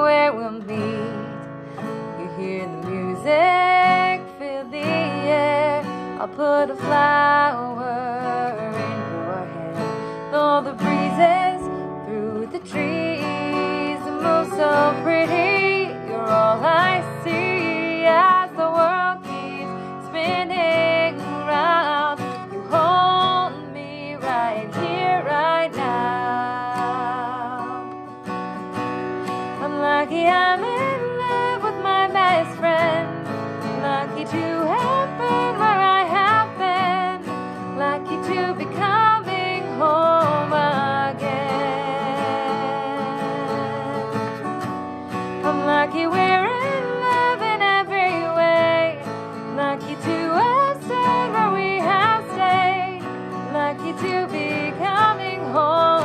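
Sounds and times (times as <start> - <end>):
strummed acoustic guitar: 0.0 - 56.0
woman singing: 0.0 - 56.0.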